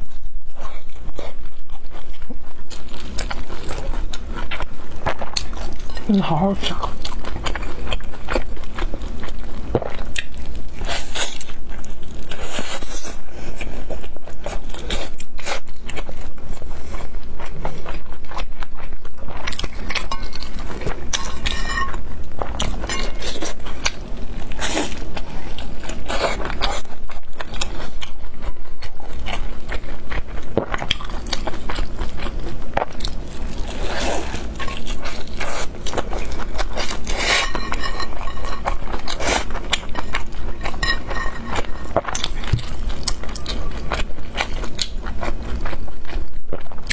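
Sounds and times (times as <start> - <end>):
biting and chewing crispy food: 0.0 - 46.9.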